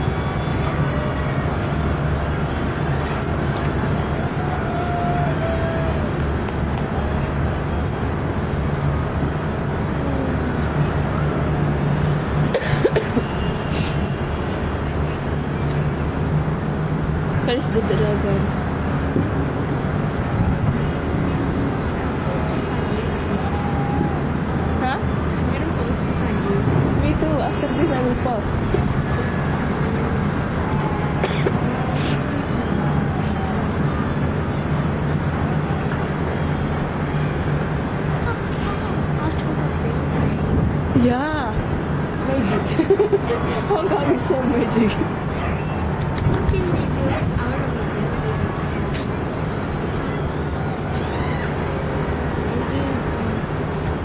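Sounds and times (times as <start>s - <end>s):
crowd noise: 0.0s - 54.0s.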